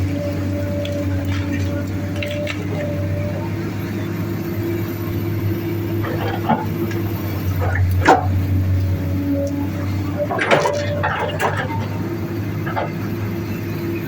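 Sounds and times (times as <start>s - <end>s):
heavy diesel machinery droning: 0.0s - 14.0s.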